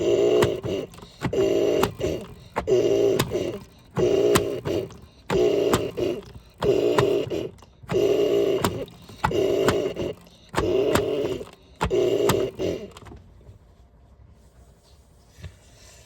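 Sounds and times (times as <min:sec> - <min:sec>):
washing machine clicks: 0:00.0 - 0:13.2
washing machine running in bursts: 0:00.0 - 0:13.7.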